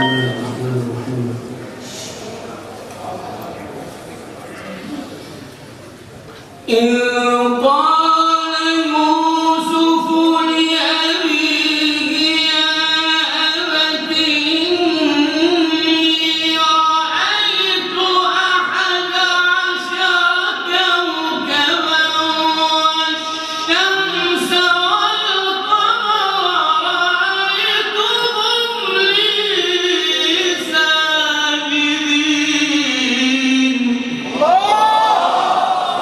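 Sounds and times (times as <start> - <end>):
melodic recitation by one voice: 0.0 - 1.2, 6.7 - 34.4.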